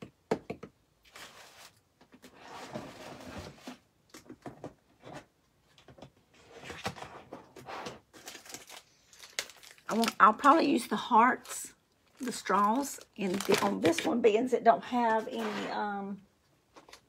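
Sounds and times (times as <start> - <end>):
rummaging through craft supplies: 0.0 - 16.1.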